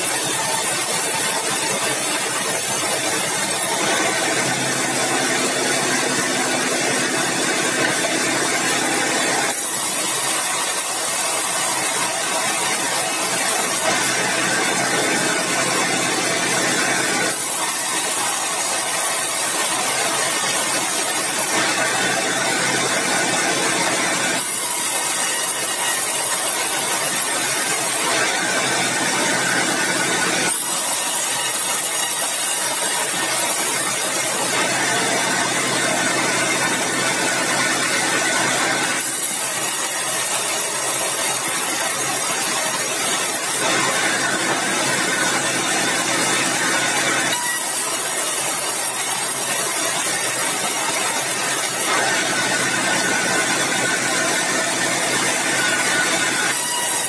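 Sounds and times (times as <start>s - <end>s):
band sawmill sawing wood: 0.0s - 57.0s.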